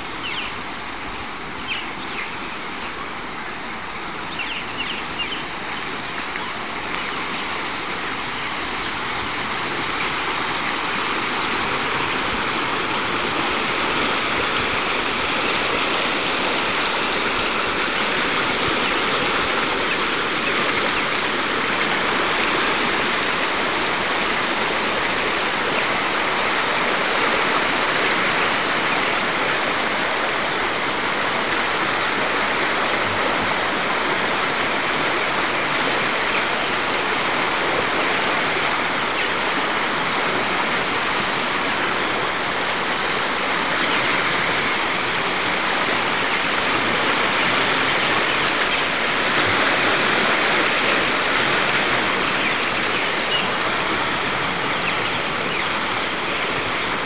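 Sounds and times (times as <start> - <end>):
white water rushing: 0.0 - 57.0.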